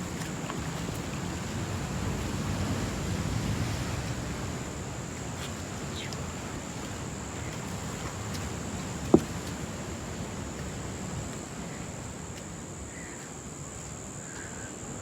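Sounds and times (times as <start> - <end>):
sea waves surging: 0.0 - 12.3.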